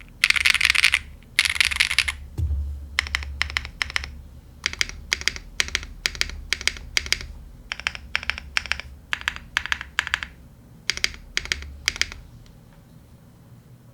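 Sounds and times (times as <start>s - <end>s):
mechanical keyboard typing: 0.0s - 2.2s, 3.0s - 12.2s.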